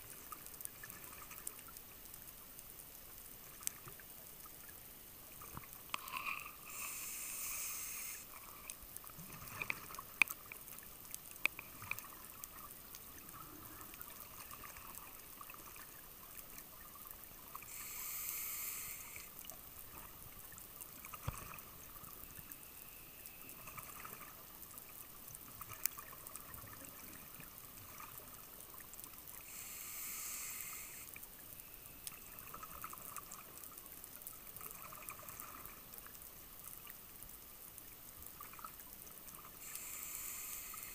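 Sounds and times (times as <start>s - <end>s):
faint hiss: 0.0s - 40.9s.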